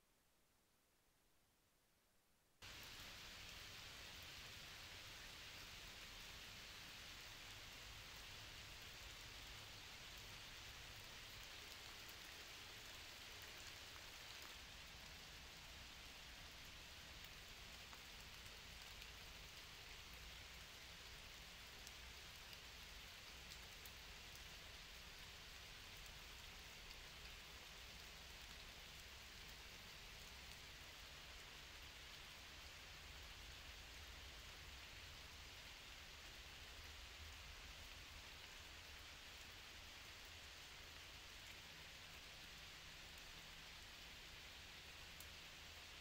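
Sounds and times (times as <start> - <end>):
light rain on leaves: 2.6 - 46.0.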